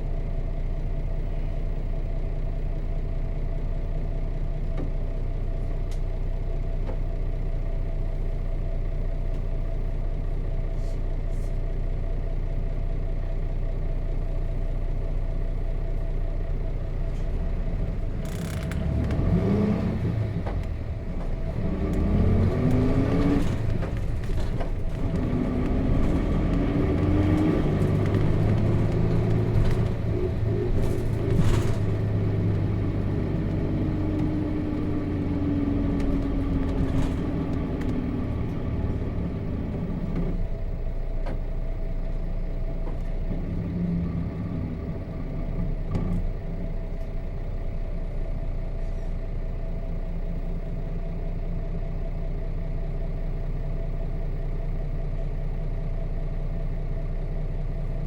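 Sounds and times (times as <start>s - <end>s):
bus engine idling: 0.0s - 58.0s
bus engine whine while moving: 0.0s - 58.0s.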